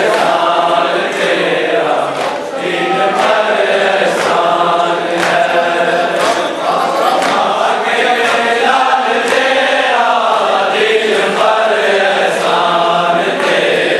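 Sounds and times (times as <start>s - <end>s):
men chanting in unison: 0.0s - 13.9s.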